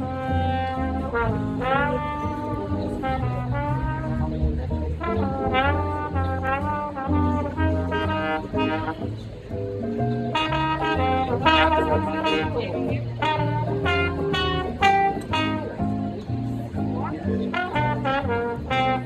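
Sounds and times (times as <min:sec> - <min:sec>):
jazz trombone solo: 0:00.0 - 0:19.0
upright bass walking line: 0:00.0 - 0:19.0.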